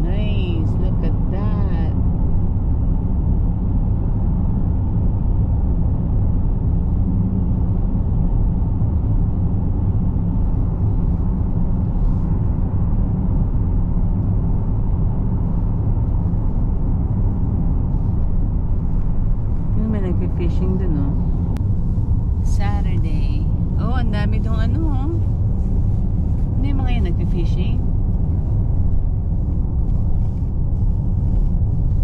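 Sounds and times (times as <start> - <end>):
car interior road rumble: 0.0 - 32.0.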